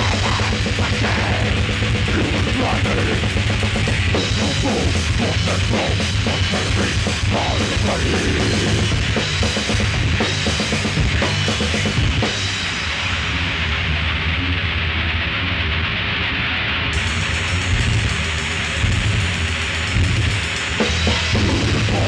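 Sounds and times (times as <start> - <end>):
drum kit with cymbals: 0.0 - 15.2, 16.9 - 22.0
bass guitar: 0.0 - 22.0
distorted electric guitar: 0.0 - 22.0.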